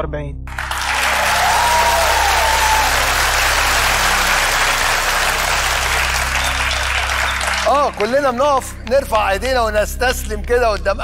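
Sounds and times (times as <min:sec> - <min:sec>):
audience applauding: 0:00.5 - 0:09.4.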